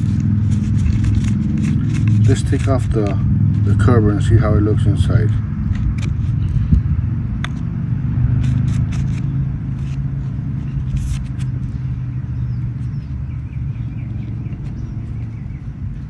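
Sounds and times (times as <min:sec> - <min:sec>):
low motor rumble: 0:00.0 - 0:16.0.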